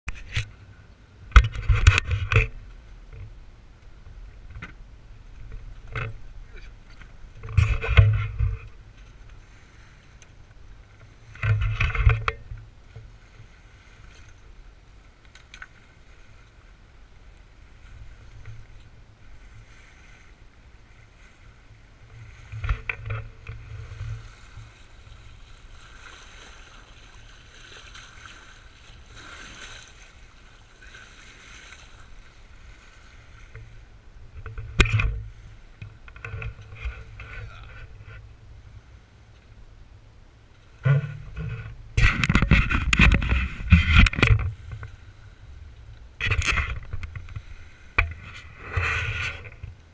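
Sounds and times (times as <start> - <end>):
water against hull: 0.1 - 49.9.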